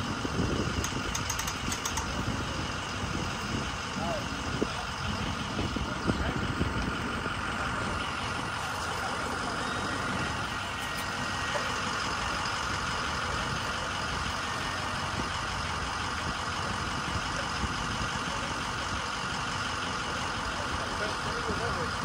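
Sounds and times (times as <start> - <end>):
motor engine idling: 0.0 - 22.0.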